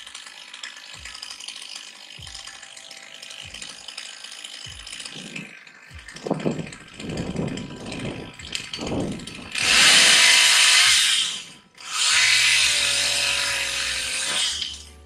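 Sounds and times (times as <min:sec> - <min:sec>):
chainsaw at full throttle: 0:00.0 - 0:15.0.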